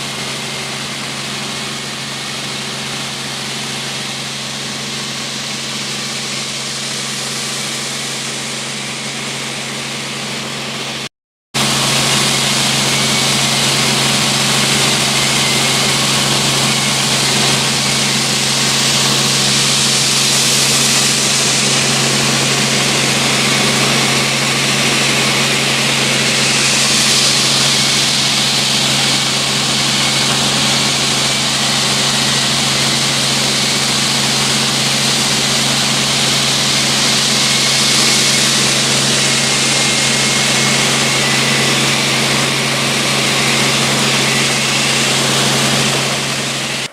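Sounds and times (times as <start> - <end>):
helicopter engine and rotor drone: 0.0 - 46.9.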